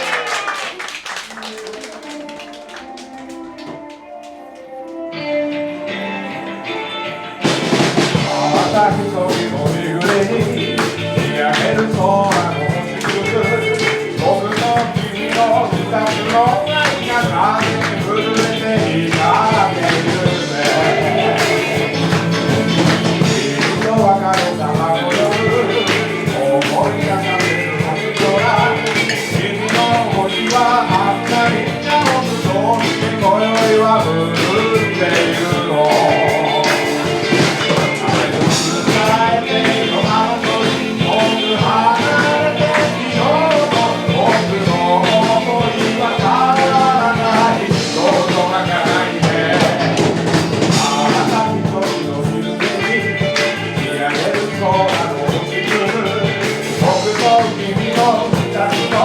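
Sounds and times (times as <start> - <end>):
rock band playing: 0.0 - 59.0
electric guitar melody: 1.5 - 59.0.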